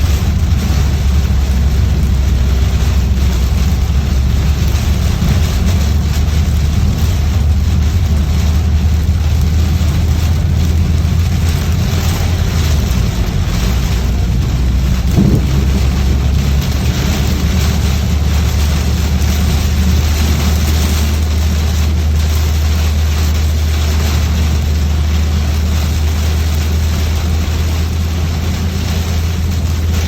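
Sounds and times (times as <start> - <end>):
car engine and road rumble: 0.0 - 30.0
rain hissing on car: 0.0 - 30.0.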